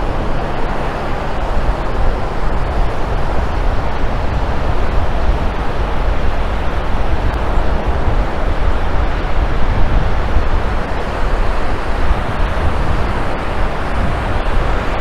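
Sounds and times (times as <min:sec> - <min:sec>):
surf: 0:00.0 - 0:15.0
wind buffeting microphone: 0:00.0 - 0:15.0.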